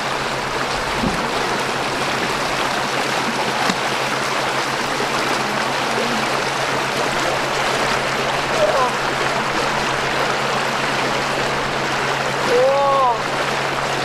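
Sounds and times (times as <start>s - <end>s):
water pouring into pond: 0.0s - 14.0s.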